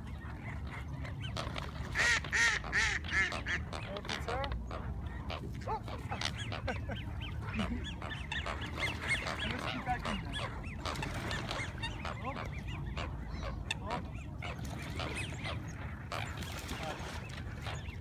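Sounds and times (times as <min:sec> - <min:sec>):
ducks and geese honking and quacking: 0:00.0 - 0:18.0.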